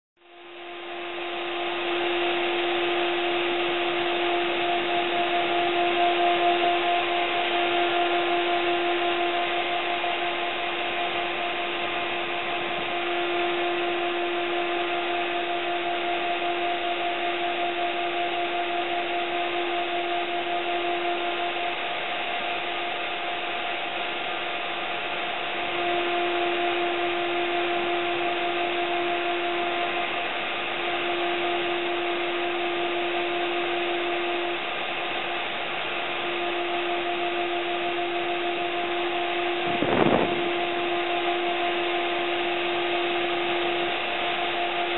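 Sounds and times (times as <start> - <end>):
router spindle whine: 0.2 - 44.9.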